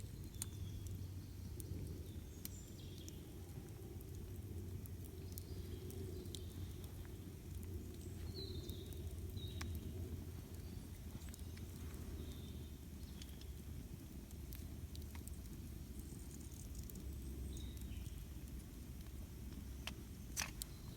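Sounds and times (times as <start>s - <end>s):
campfire crackling: 0.0s - 20.9s.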